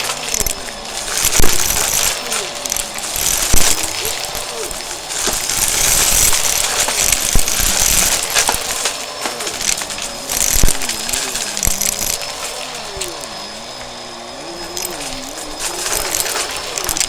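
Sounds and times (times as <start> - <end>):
sharp clicks and rattles: 0.0 - 14.0, 14.6 - 17.0
vacuum cleaner running: 0.0 - 17.0.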